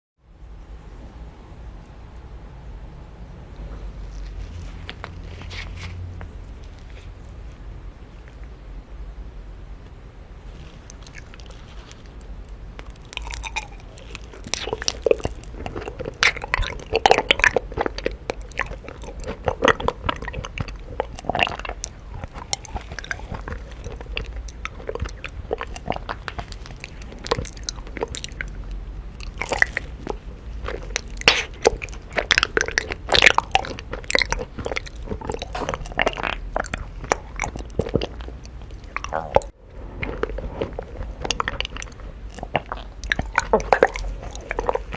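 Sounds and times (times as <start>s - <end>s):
crunching mouth sounds: 3.6s - 7.6s, 10.5s - 44.9s
chewing honeycomb: 3.6s - 8.6s, 10.5s - 44.9s.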